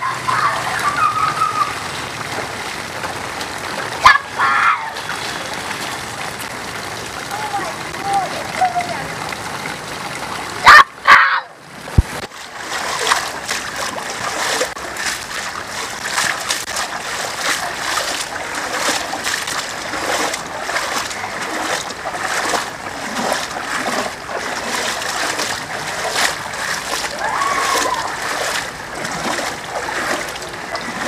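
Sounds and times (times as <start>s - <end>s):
feet splashing through water: 0.1s - 31.0s.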